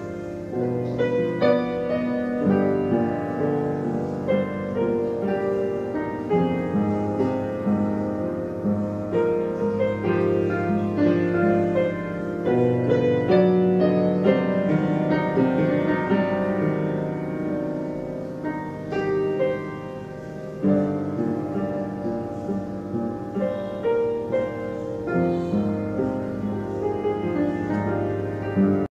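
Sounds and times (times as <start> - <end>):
instrumental music: 0.0 - 28.9.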